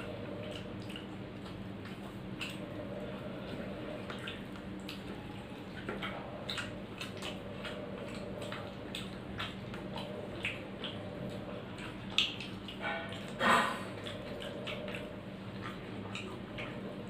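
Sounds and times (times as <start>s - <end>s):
steady low hum: 0.0s - 17.0s
wet chewing and smacking: 0.0s - 17.0s.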